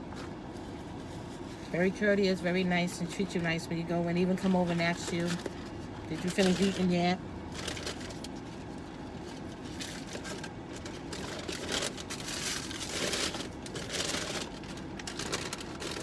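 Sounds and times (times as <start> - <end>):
paper packaging crinkling: 3.0 - 16.0.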